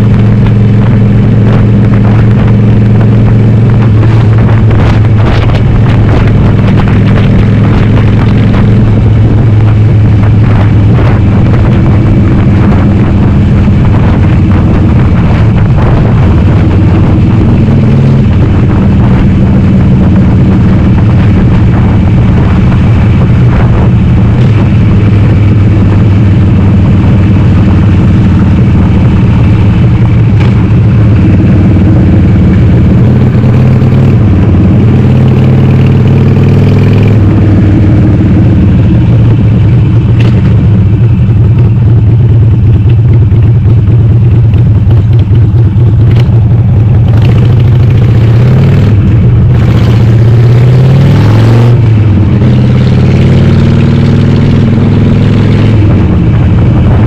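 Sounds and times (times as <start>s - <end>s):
loud motorcycle engine running: 0.0s - 57.0s.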